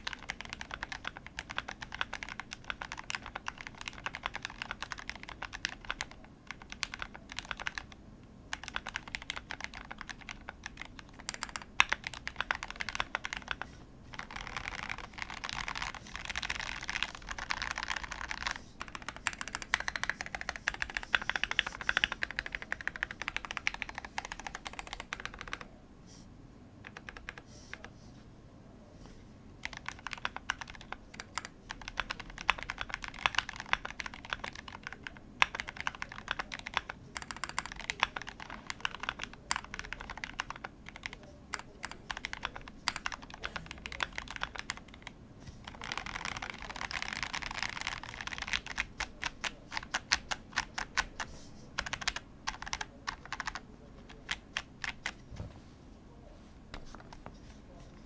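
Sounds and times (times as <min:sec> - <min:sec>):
mechanical keyboard typing: 0:00.0 - 0:25.7, 0:26.8 - 0:27.9, 0:29.6 - 0:55.2.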